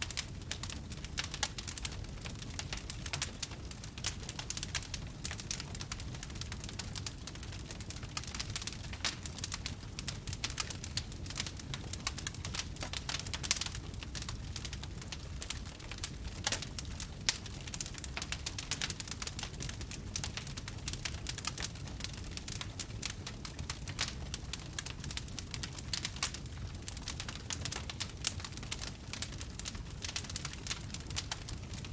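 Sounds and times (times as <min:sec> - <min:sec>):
campfire crackling: 0:00.0 - 0:31.9.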